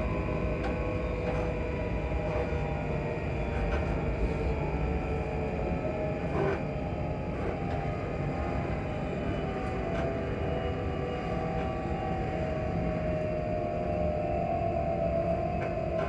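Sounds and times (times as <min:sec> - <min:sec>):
train motors humming: 0:00.0 - 0:16.0
wheels rumbling on rails: 0:00.0 - 0:16.0.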